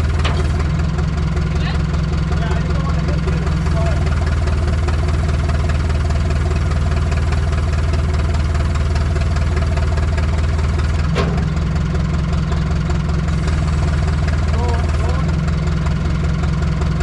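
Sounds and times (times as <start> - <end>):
motor running with deep hum: 0.0 - 17.0.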